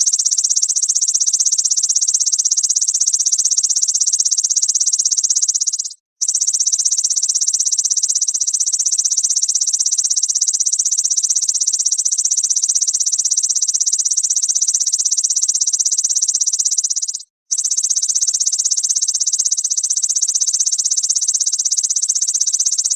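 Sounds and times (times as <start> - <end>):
grasshopper buzzing trill: 0.0 - 22.9.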